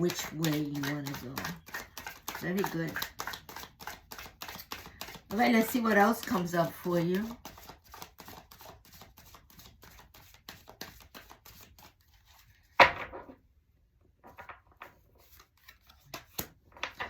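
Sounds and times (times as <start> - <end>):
cards being shuffled: 0.0 - 12.7, 15.2 - 17.0.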